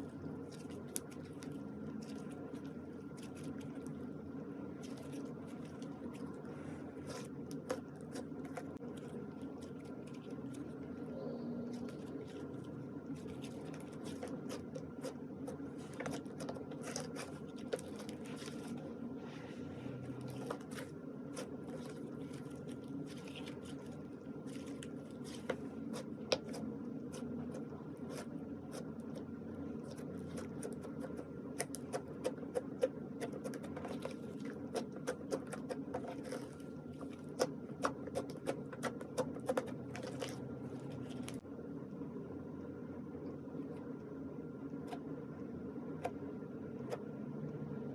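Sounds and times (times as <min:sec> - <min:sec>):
low background hum: 0:00.0 - 0:47.9.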